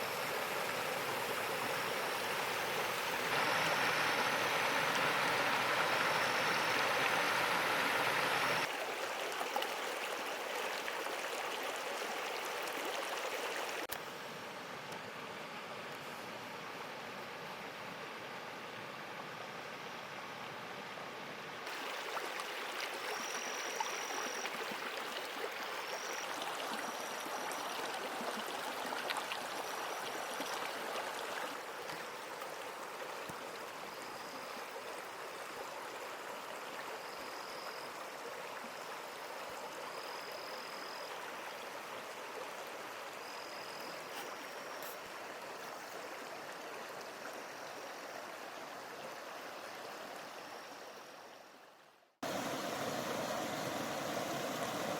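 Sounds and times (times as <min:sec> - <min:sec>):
stream over rocks: 0:00.0 - 0:51.5, 0:52.2 - 0:54.9.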